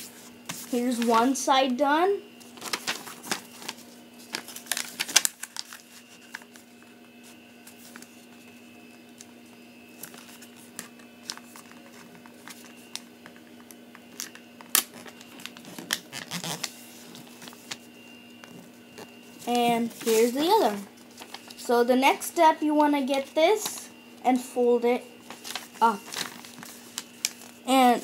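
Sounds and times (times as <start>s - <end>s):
paper rustling and crinkling: 0.0s - 1.4s, 2.4s - 21.6s, 25.2s - 27.7s
faint steady hum: 0.0s - 28.0s.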